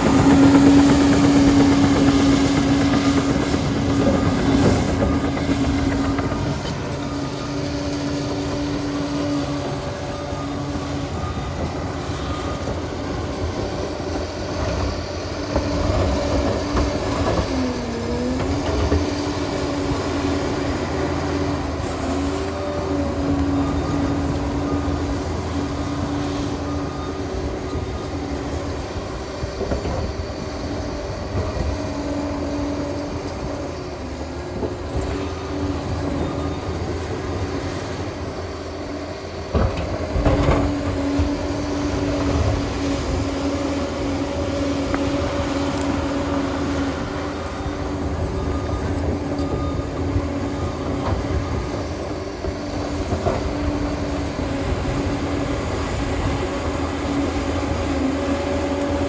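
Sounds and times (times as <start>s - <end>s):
crawler dozer running: 0.0s - 59.0s
held whining tone: 0.0s - 59.0s.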